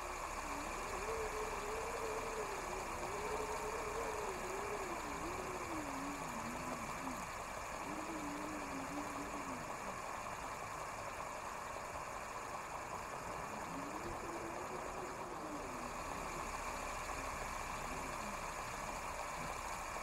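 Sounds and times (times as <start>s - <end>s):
steady droning ambience: 0.0s - 20.0s
wavering tone: 0.0s - 20.0s.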